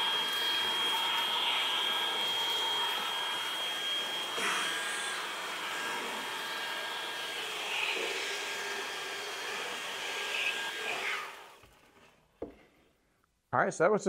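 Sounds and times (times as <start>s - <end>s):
stick vacuum running: 0.0s - 11.9s.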